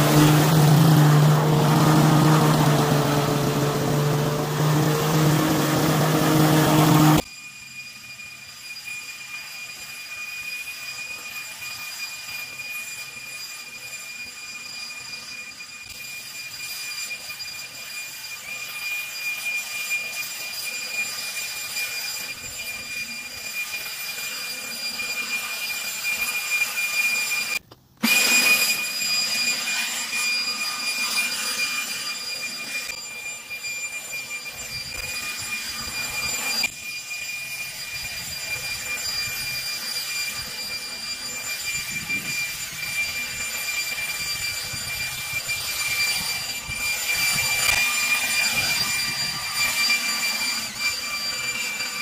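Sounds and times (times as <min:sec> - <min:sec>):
leaf blower whining: 0:00.0 - 0:07.3, 0:15.6 - 0:52.0.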